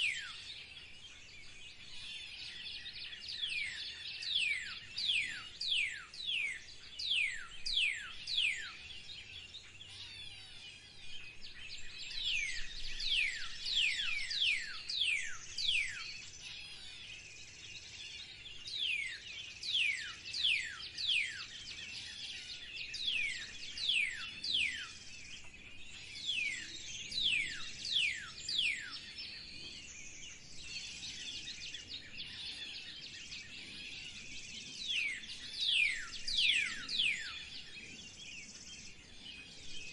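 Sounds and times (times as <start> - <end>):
songbird whistled notes: 0.0 - 0.6, 1.9 - 8.8, 11.6 - 17.0, 17.8 - 39.9.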